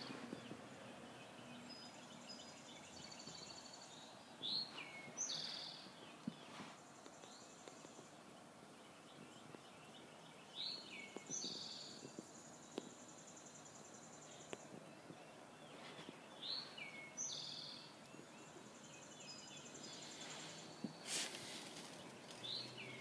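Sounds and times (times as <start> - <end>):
songbird singing a trilled phrase: 0.0 - 21.0, 21.8 - 23.0
faint outdoor background: 0.0 - 23.0.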